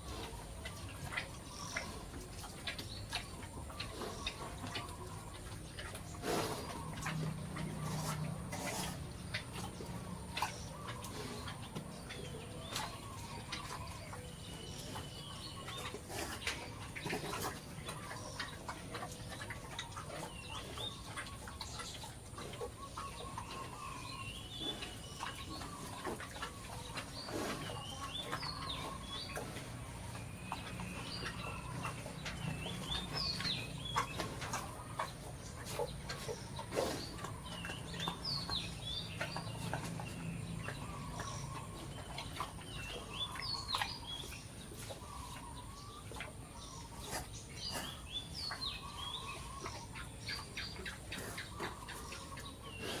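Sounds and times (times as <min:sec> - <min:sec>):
birds chirping: 0:00.0 - 0:53.0
chickens clucking: 0:00.0 - 0:53.0.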